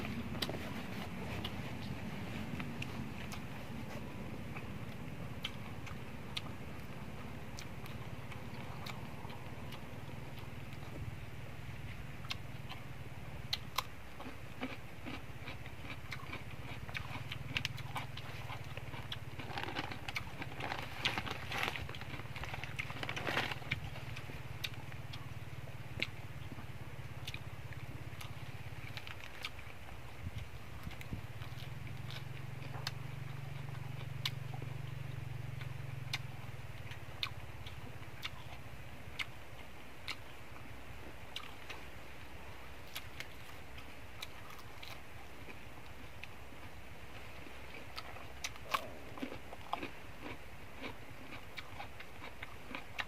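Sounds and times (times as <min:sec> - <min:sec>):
close-up chewing and crunching: 0:00.0 - 0:53.0
steady low hum: 0:00.0 - 0:53.0.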